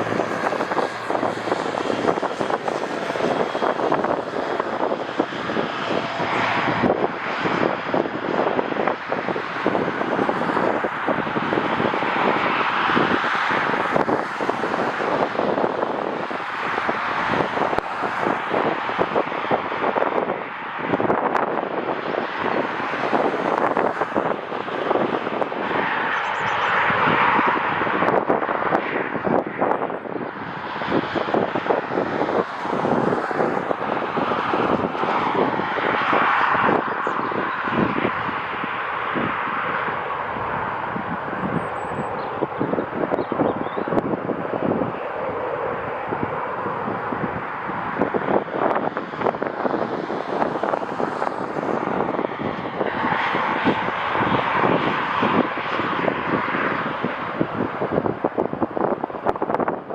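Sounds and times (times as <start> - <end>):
jet airliner engines: 0.0 - 59.9
wind buffeting microphone: 0.0 - 59.9.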